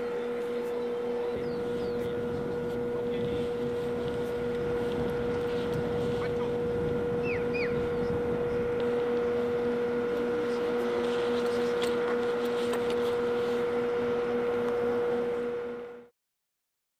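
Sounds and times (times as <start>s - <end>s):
ground power machine drone: 0.0s - 16.1s.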